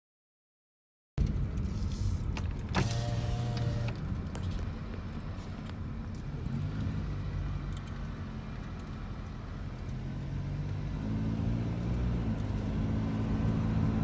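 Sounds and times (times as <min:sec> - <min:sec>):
car engine running: 0:01.2 - 0:14.0
road noise: 0:01.2 - 0:14.0.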